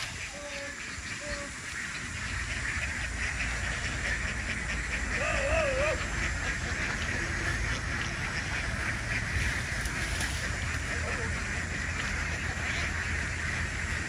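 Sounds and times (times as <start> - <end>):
flock of ducks calling: 0.0 - 14.0.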